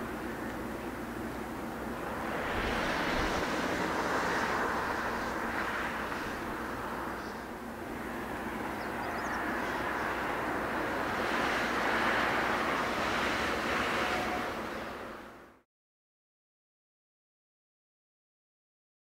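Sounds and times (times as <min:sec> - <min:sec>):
distant jet engines roaring: 0:00.0 - 0:15.6.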